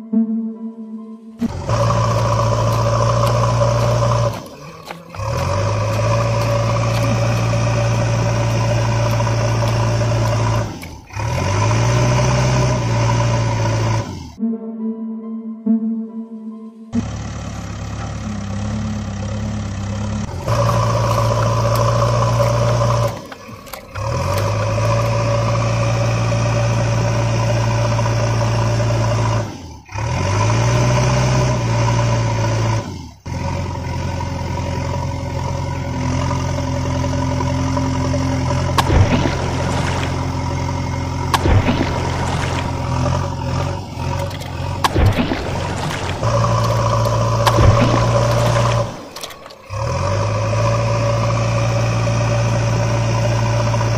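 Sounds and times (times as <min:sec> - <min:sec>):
vehicle engine running: 0:01.4 - 0:14.4, 0:16.9 - 0:53.9.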